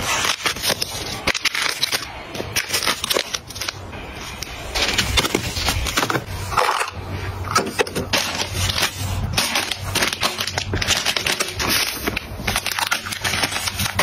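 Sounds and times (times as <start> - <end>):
plastic packs crinkling: 0.0 - 14.0.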